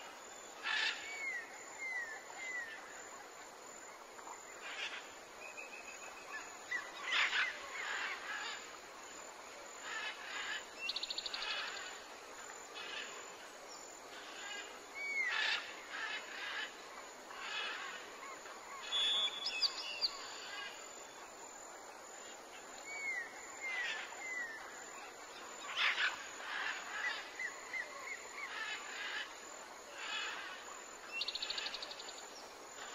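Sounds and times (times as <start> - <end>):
steady background hiss: 0.0 - 32.9.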